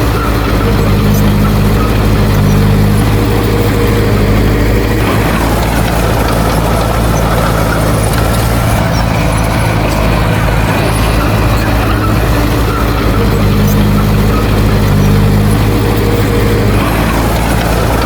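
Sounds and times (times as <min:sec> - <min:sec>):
heavy diesel engine droning: 0:00.0 - 0:18.0.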